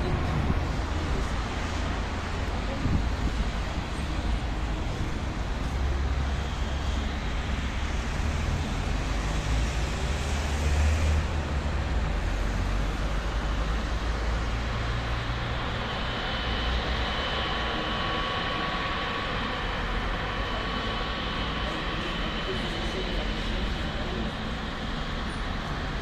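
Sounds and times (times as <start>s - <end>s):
jet engines spooling up: 0.0s - 26.0s
road traffic passing: 0.0s - 26.0s.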